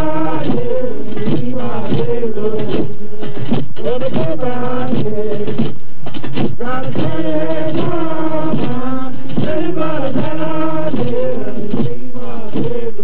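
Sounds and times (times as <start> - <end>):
men singing a work chant: 0.0 - 2.9, 3.8 - 5.6, 6.6 - 13.0.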